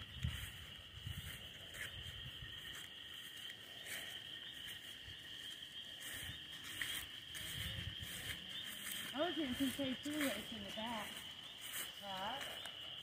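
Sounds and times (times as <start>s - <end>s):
footsteps through grass: 0.0s - 13.0s
night insect chorus trilling: 0.0s - 13.0s.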